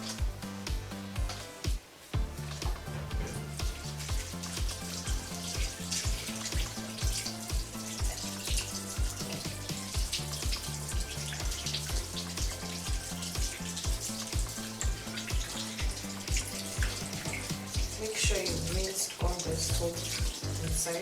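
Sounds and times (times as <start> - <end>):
music with steady beat and bass: 0.0 - 20.9
tap water splashing: 0.0 - 21.0.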